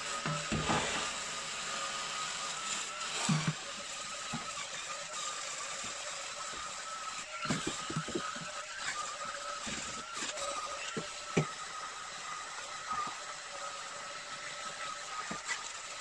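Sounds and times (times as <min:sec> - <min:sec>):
electric cleaning brush motor whining: 0:00.0 - 0:16.0.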